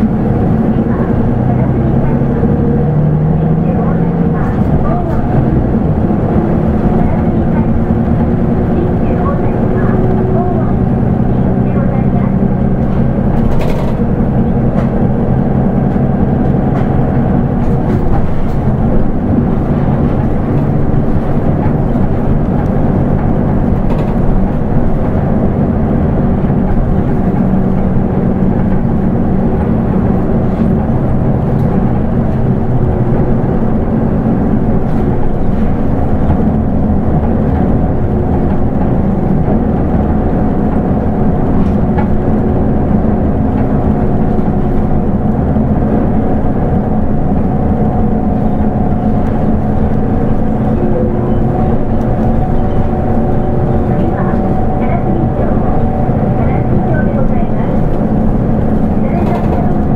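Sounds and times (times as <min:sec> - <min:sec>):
bus diesel engine droning: 0:00.0 - 0:59.9
road noise: 0:00.0 - 0:59.9.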